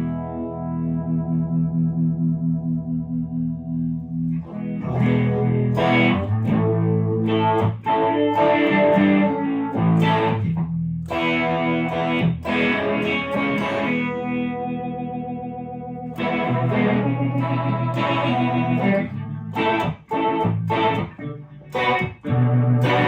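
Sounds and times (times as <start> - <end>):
electric guitar chords with phaser: 0.0 - 23.0.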